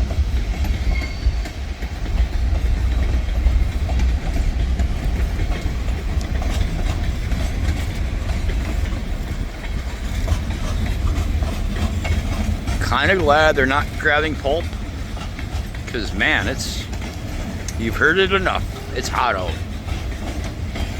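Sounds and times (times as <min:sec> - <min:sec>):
freight train rumbling past: 0:00.0 - 0:20.9
wheels clicking over rail joints: 0:00.0 - 0:20.9.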